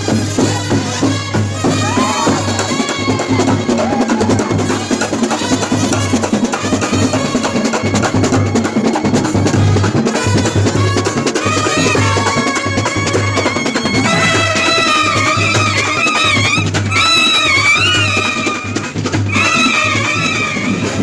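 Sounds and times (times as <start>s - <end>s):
percussion ensemble drumming: 0.0s - 21.0s.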